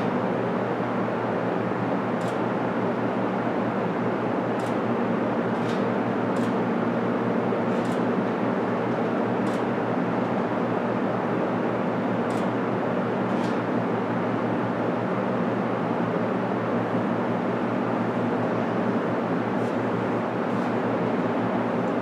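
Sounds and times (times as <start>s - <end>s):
ventilation system hum and hiss: 0.0s - 22.0s.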